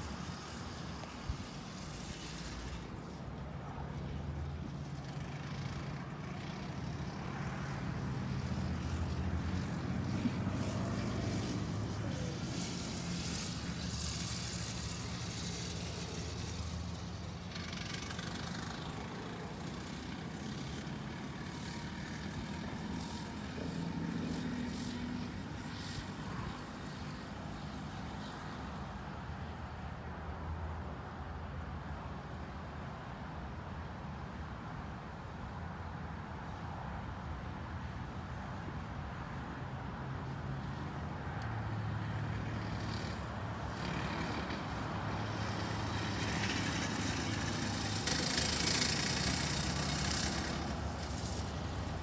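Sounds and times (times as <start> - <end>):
go-kart engine running laps: 0.0 - 30.1, 38.0 - 52.0.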